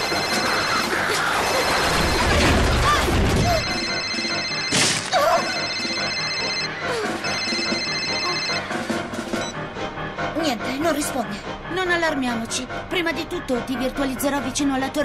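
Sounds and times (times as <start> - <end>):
tense background music: 0.0 - 15.0.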